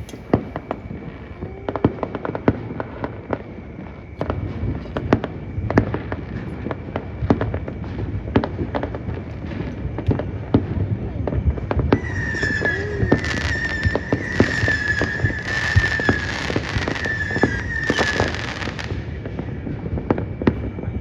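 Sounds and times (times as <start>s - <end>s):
fireworks bangs and cracks: 0.0s - 21.0s
rumble of distant fireworks bursts: 0.0s - 21.0s.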